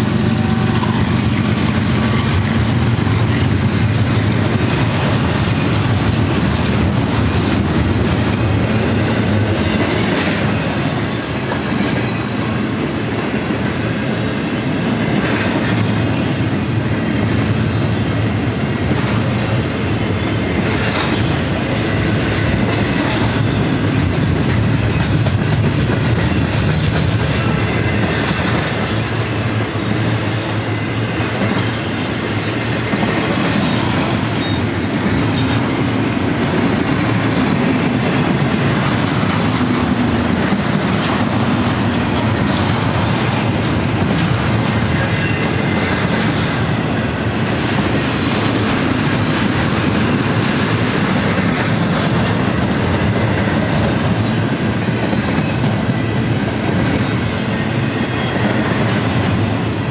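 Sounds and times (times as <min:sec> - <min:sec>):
steel wheels rumbling on rails: 0:00.0 - 0:59.9.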